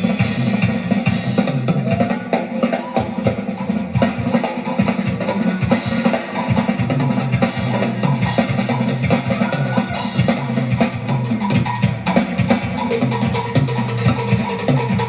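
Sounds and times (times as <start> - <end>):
drum kit played rapidly: 0.0 - 15.0.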